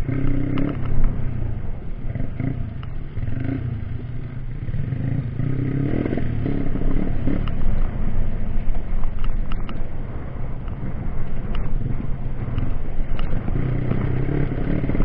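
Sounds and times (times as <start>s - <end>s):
clatter: 0.0s - 15.0s
motorcycle engine revving: 0.0s - 15.0s.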